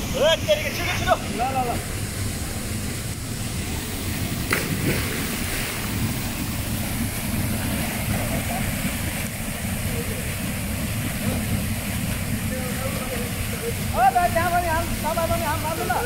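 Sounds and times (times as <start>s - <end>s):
waterfall pouring into pool: 0.0s - 16.0s
swimmer splashing in water: 1.8s - 16.0s.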